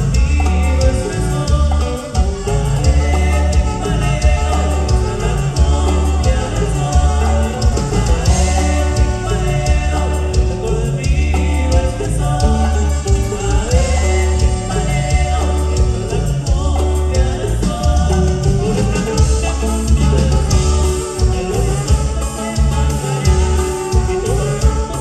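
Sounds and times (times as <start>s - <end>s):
band playing cumbia: 0.0s - 25.0s
person singing: 0.0s - 25.0s.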